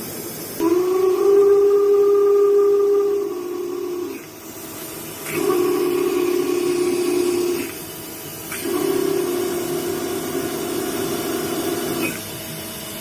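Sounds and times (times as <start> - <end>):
machine hiss: 0.0 - 13.0
machine tool steady tone: 0.0 - 13.0.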